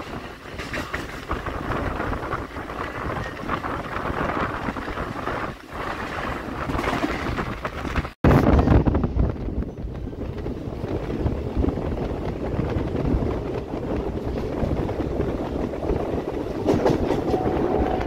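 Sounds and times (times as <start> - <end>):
electric train rumbling: 0.0 - 18.0
wind on microphone: 0.0 - 18.0.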